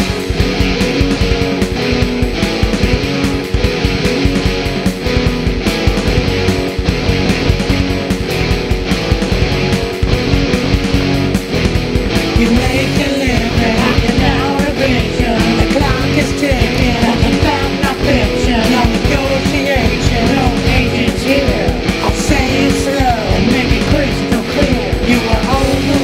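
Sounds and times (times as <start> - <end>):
guitar rock music: 0.0 - 26.0.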